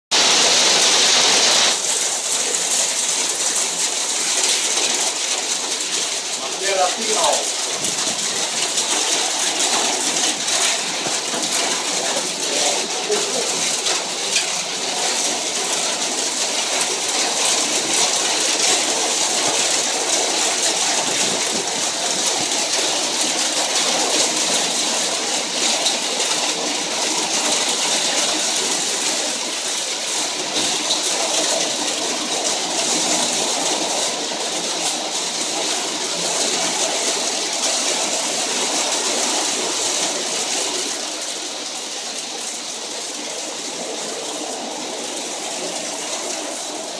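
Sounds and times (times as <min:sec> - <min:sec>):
hail and rain on asphalt: 0:00.1 - 0:46.9.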